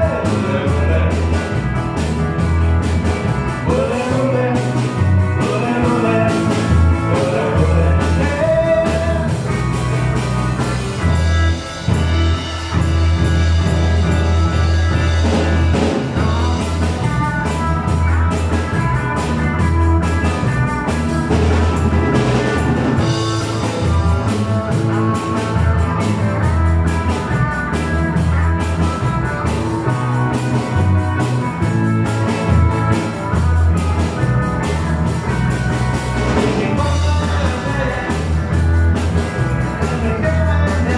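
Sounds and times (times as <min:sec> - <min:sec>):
bass guitar: 0:00.0 - 0:40.9
drum kit beat: 0:00.0 - 0:40.9
electric guitars: 0:00.0 - 0:40.9.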